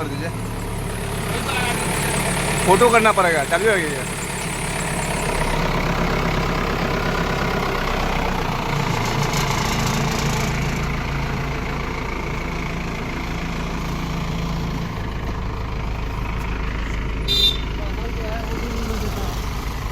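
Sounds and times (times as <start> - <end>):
diesel engine idling: 0.0 - 19.9.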